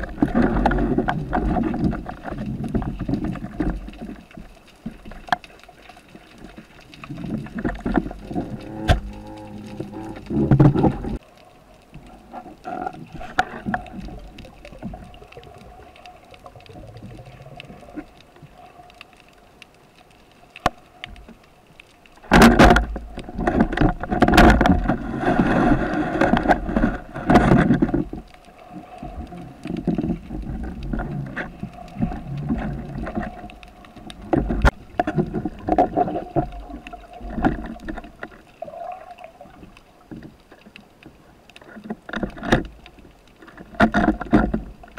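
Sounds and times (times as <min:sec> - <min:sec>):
faint underwater drone: 0:00.0 - 0:44.9.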